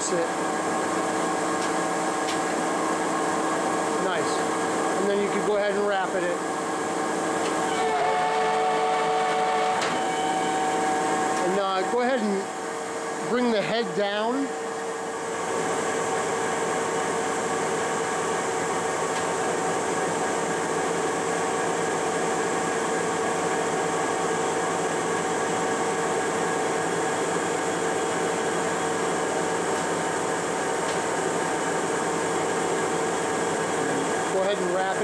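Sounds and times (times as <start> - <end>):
machine whine over hum: 0.0 - 35.0.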